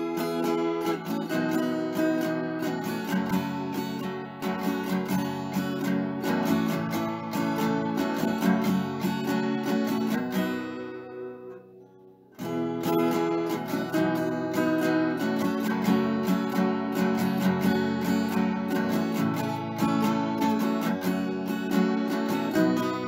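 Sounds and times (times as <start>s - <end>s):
strummed acoustic guitar: 0.0s - 23.0s.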